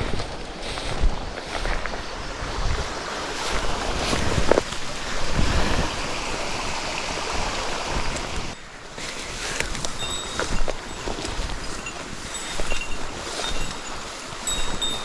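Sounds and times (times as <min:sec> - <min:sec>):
wind buffeting microphone: 0:00.0 - 0:15.0
water flowing in stream: 0:00.3 - 0:15.0.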